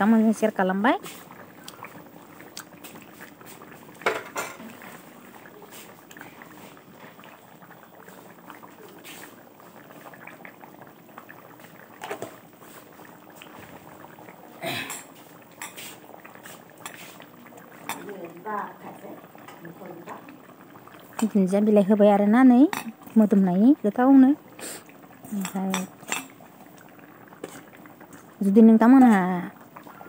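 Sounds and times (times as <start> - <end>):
curry bubbling at a boil: 0.0 - 30.0.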